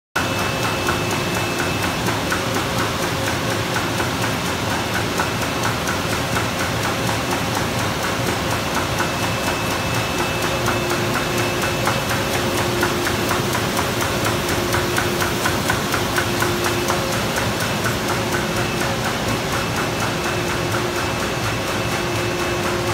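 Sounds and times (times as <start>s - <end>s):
printing press clattering: 0.2s - 22.9s.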